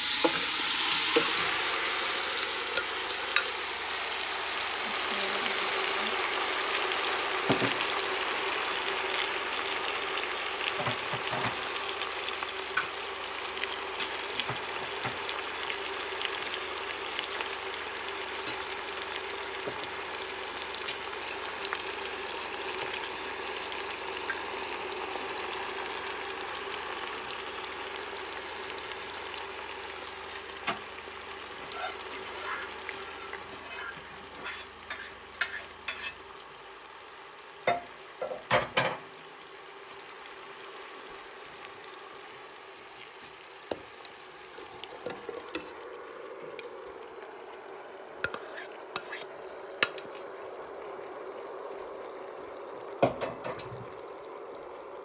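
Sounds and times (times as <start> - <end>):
meat sizzling in oil: 0.0 - 55.0.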